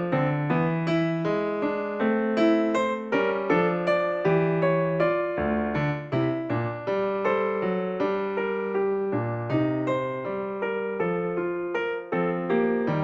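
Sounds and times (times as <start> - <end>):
keyboard piano melody: 0.0 - 13.0.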